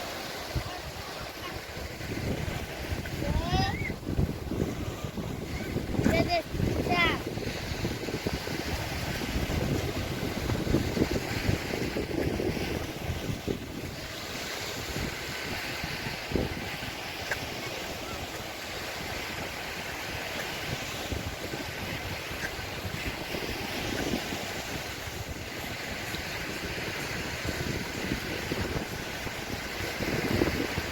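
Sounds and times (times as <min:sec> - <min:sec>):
surf washing onto beach: 0:00.0 - 0:30.9
wind buffeting microphone: 0:00.0 - 0:30.9.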